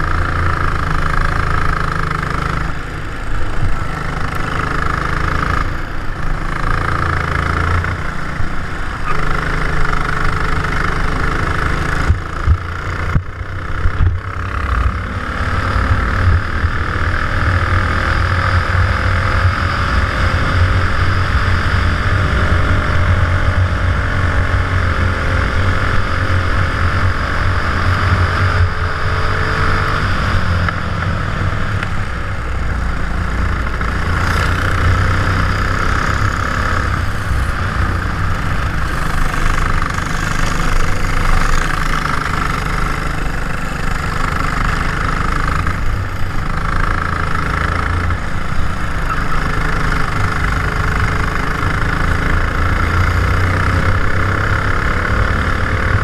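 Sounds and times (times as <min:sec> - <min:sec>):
kart engine running: 0:00.0 - 0:56.0.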